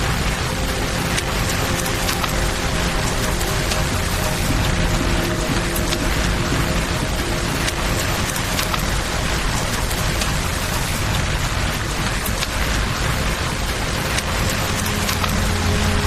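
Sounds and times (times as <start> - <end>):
campfire crackles: 0.0 - 16.0
low rumble: 0.0 - 16.0
rain hissing: 0.0 - 16.0.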